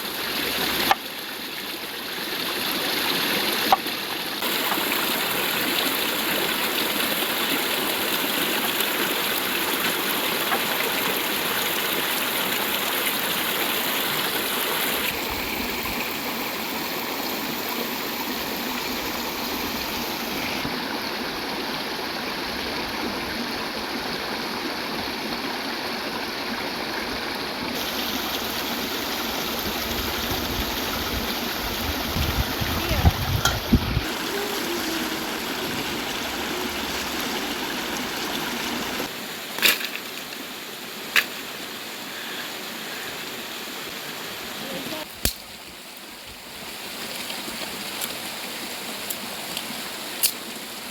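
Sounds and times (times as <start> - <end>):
stream running water: 0.0 - 50.9.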